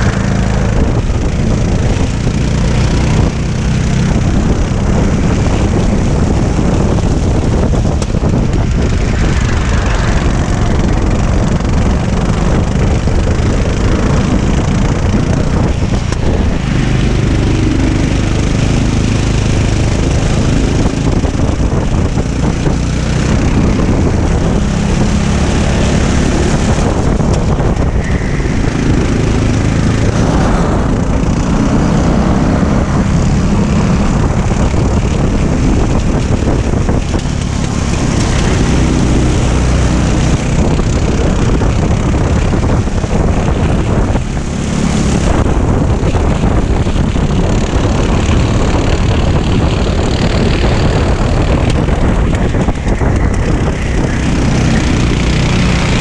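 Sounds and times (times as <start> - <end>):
racing kart engine: 0.0 - 56.0
wind on microphone: 0.0 - 56.0.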